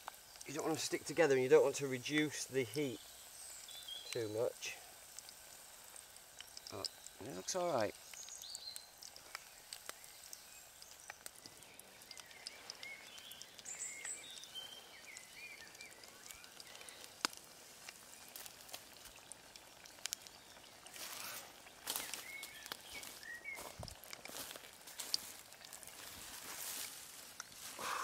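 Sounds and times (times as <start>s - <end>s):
deep-frying sizzle with pops: 0.0s - 28.0s.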